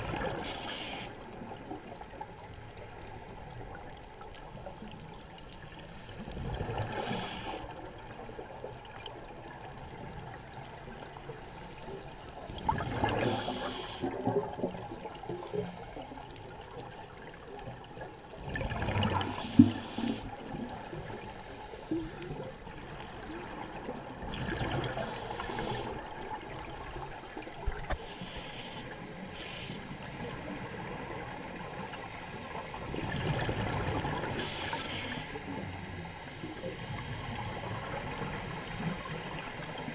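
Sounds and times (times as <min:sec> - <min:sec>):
exhaled bubbles gurgling: 0:00.0 - 0:05.1, 0:06.0 - 0:11.2, 0:12.0 - 0:28.0, 0:29.5 - 0:35.8
steady underwater hiss: 0:00.0 - 0:39.9.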